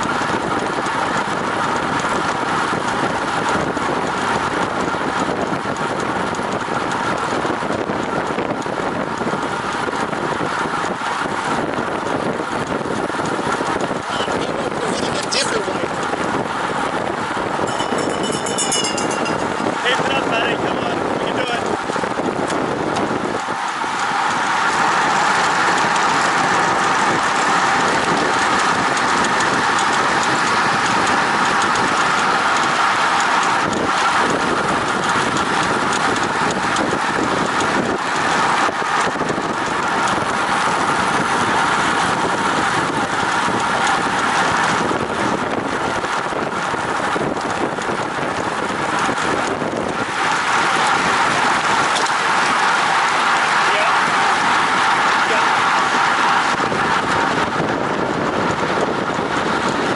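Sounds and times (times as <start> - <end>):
wind rush over microphone: 0.0 - 59.9.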